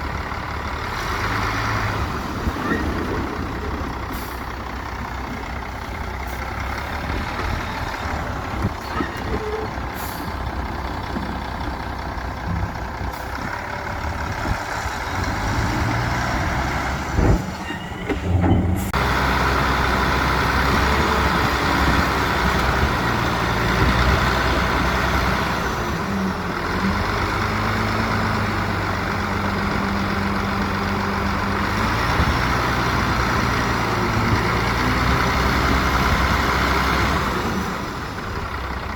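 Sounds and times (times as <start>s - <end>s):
diesel construction machinery: 0.0s - 38.9s.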